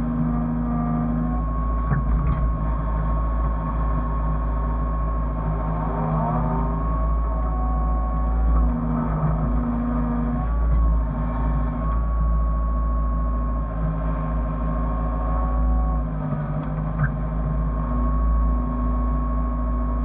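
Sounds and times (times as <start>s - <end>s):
excavator diesel engine rumbling: 0.0s - 20.0s.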